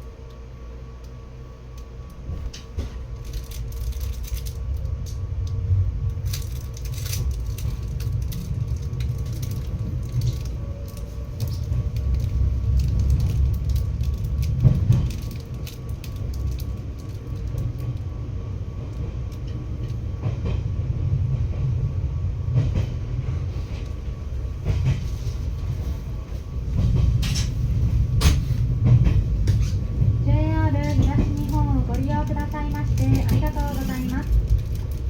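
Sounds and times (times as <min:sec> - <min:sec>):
train running rumble: 0:00.0 - 0:35.0.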